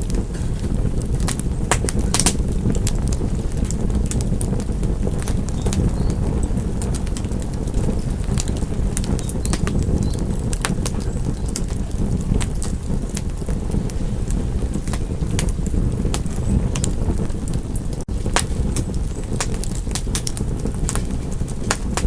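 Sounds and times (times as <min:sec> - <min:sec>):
low rush of burning fire: 0:00.0 - 0:22.0
wood fire crackling: 0:00.0 - 0:22.0.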